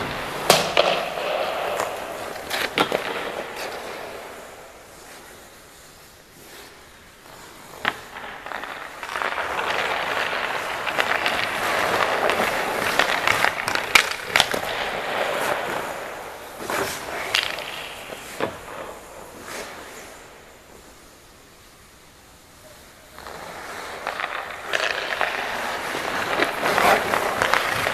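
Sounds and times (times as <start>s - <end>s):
ice skate blades scraping ice: 0.0s - 21.2s, 23.0s - 27.9s
knocks of skates and pads: 0.0s - 27.9s.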